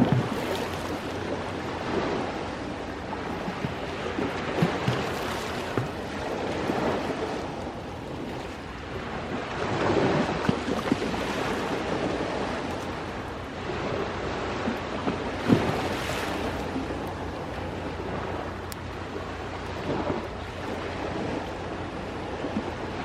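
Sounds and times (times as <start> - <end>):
ocean waves washing ashore: 0.0 - 23.0.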